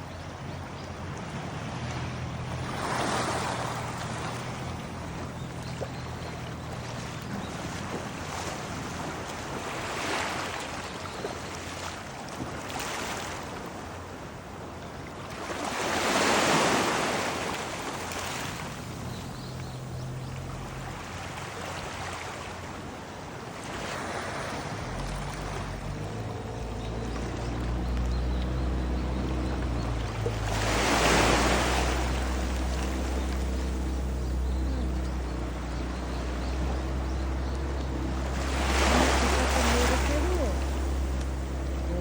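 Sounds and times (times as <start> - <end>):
low steady engine hum: 0.0 - 42.0
sea waves washing in: 0.0 - 42.0.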